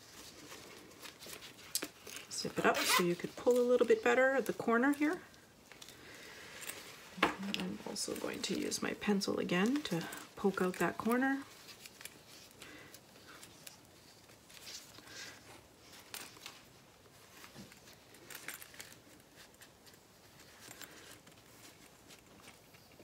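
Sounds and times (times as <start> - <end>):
fabric rustling: 0.0 - 23.0.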